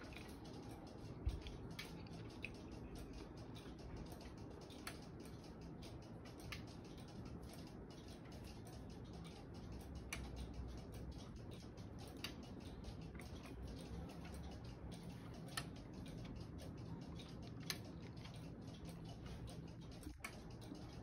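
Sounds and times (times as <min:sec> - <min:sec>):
clock ticking with wooden clicks: 0:00.0 - 0:21.0.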